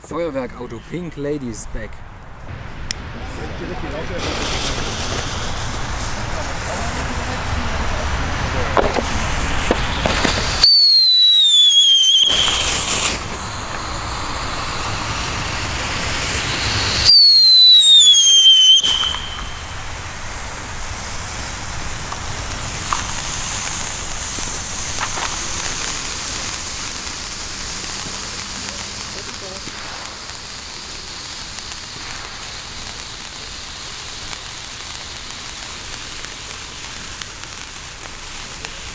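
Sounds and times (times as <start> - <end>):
firework hissing: 1.6 - 38.9
spark fountain spraying hiss: 2.5 - 38.9
falling firework whistles: 3.9 - 38.9.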